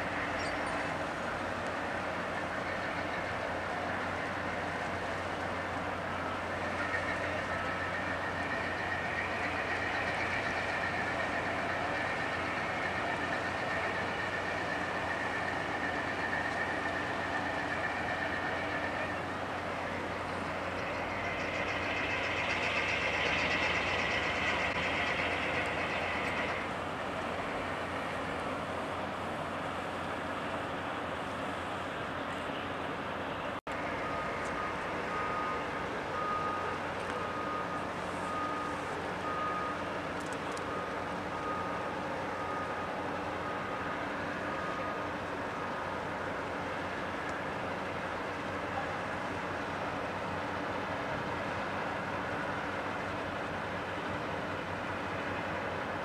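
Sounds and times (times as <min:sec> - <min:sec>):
boat engines droning: 0:00.0 - 0:56.0.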